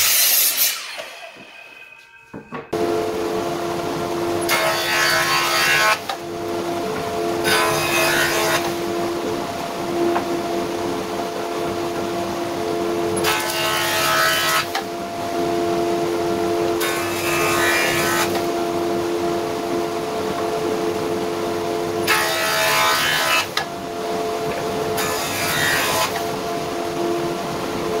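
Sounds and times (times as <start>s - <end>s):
harsh wood cutting noise: 0.0s - 21.0s, 21.8s - 26.5s
jointer humming: 0.6s - 28.0s.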